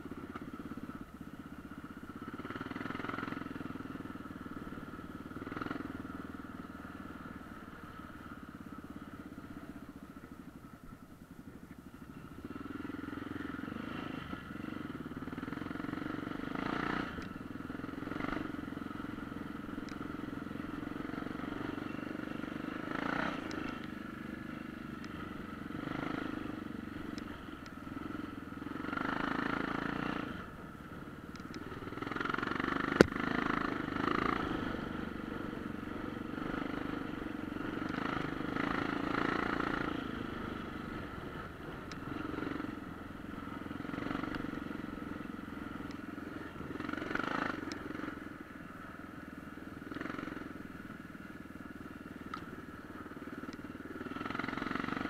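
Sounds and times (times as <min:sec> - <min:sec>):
off-road motorcycle engine running: 0:00.0 - 0:55.0.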